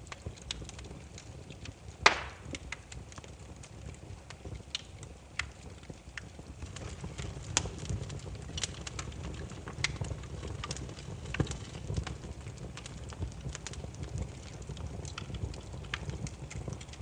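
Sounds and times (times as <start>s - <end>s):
firewood crackling and popping: 0.0s - 17.0s
low rumble of flames: 0.0s - 17.0s.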